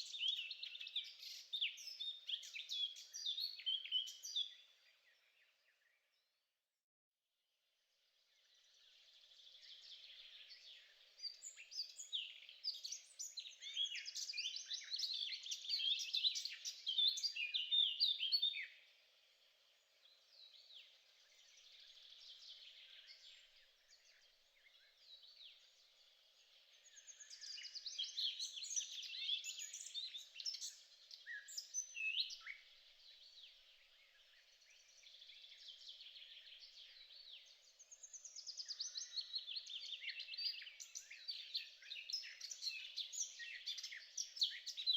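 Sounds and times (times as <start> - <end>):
small birds chirping and singing: 0.0 - 6.5, 8.0 - 44.9.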